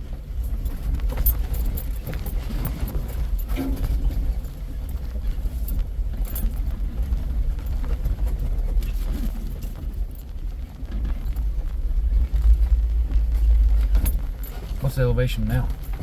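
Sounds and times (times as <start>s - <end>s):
vehicle rumbling on rocky trail: 0.0s - 16.0s
rattles and knocks: 0.1s - 16.0s.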